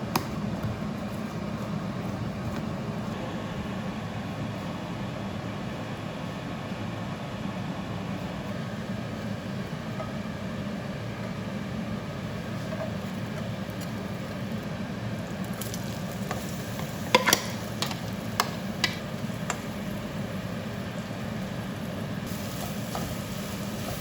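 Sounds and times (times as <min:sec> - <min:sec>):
fan humming: 0:00.0 - 0:24.0.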